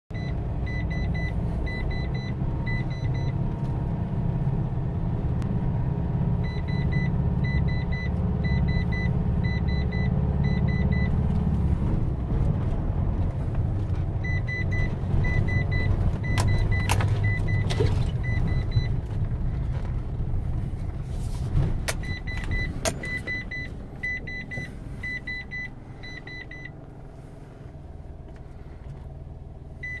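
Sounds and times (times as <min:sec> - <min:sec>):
engine and tyres rumbling: 0:00.1 - 0:30.0.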